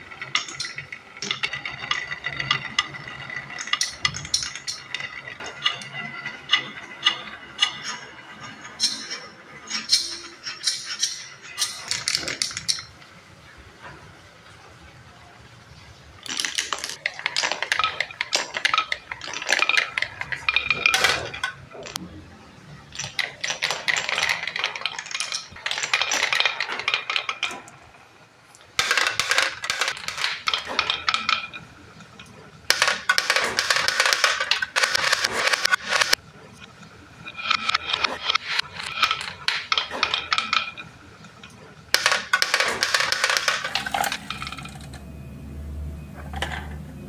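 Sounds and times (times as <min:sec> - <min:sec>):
marbles rattling down a marble run: 0:00.0 - 0:13.2, 0:16.2 - 0:22.1, 0:22.8 - 0:28.0, 0:28.7 - 0:36.2, 0:37.2 - 0:45.0.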